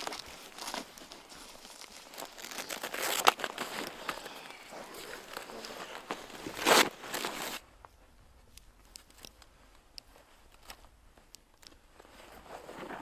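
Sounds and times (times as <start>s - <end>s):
rustling of heavy clothing: 0.0s - 13.0s.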